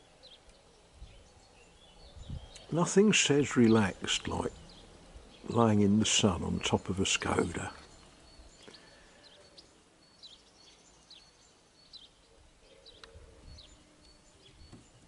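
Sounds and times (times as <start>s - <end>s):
faint birdsong chirps: 0.0s - 15.0s.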